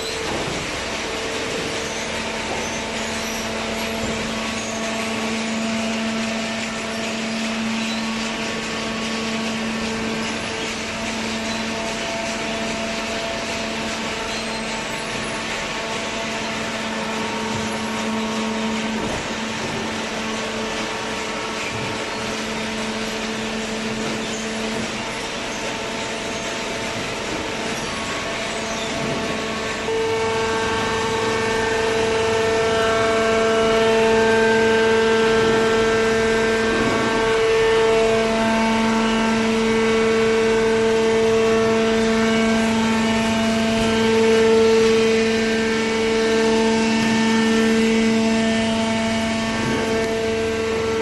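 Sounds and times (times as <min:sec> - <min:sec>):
low machine whine: 0:00.0 - 0:51.0
machine humming: 0:00.0 - 0:51.0.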